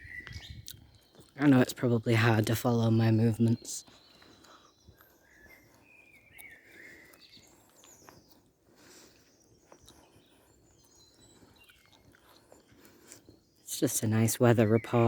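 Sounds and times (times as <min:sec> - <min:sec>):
distant birdsong: 0:00.0 - 0:15.0.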